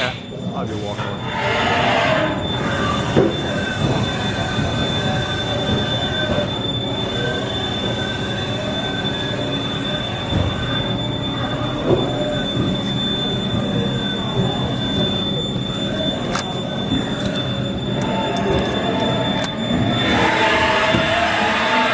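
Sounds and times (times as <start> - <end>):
low mechanical hum: 0.0 - 21.9
machining spindle whine: 0.0 - 21.9.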